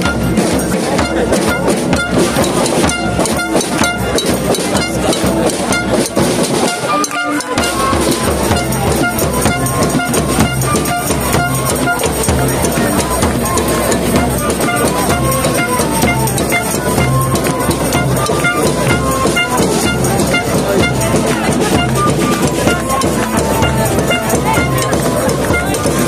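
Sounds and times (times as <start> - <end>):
music with drum beat: 0.0 - 26.0.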